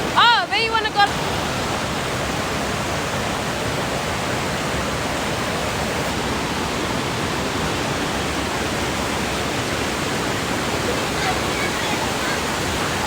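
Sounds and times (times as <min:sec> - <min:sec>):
creek waterfall rushing: 0:00.0 - 0:13.0.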